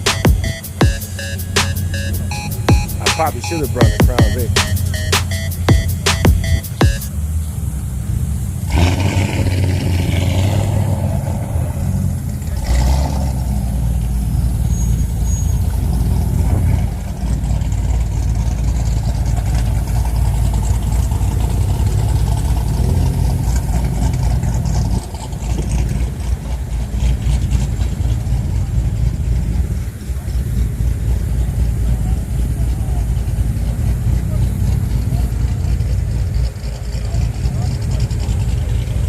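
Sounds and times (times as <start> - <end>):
car engines idling and revving: 0.0 - 39.0.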